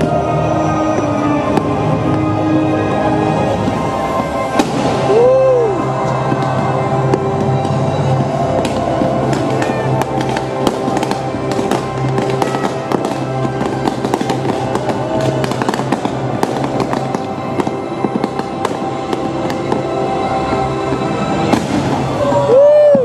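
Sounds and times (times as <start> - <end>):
loud music with sustained tones: 0.0 - 23.0
fireworks popping and crackling: 3.4 - 23.0.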